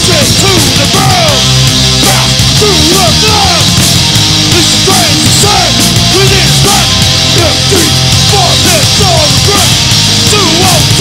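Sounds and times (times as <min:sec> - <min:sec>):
distorted guitar and bass chords: 0:00.0 - 0:11.0
drums with crashing cymbals: 0:00.0 - 0:11.0.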